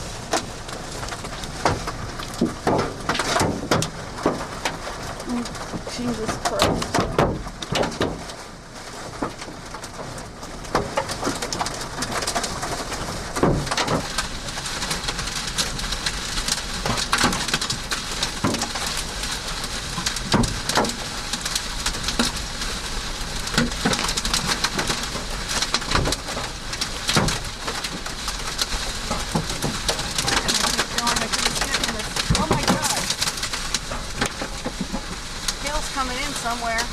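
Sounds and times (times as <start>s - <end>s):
hail clattering on car roof: 0.0s - 36.9s
hailstones banging on car: 0.0s - 36.9s.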